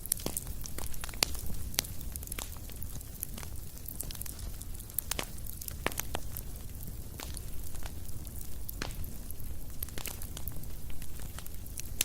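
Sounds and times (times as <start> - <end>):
fire crackling and popping: 0.0 - 12.0.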